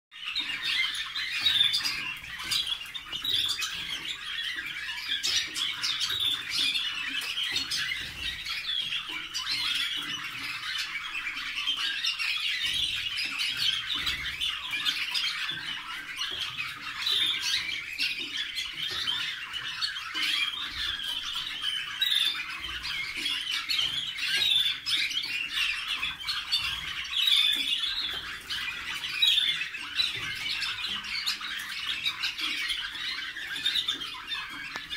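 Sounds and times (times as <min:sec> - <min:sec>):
canaries singing and calling: 0:00.1 - 0:34.9.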